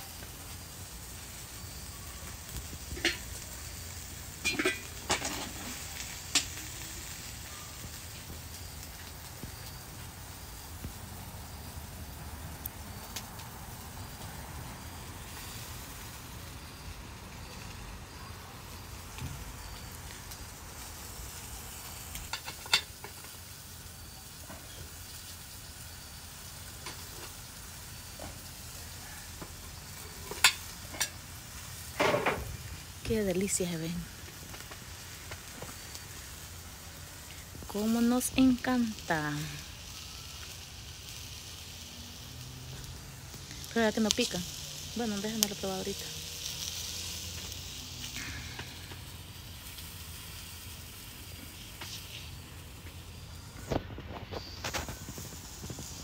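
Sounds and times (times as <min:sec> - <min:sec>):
sausages sizzling on grill: 0:00.0 - 0:56.0.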